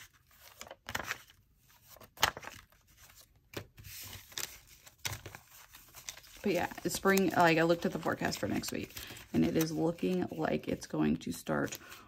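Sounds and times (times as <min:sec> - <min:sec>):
paper banknotes rustling: 0:00.0 - 0:12.0.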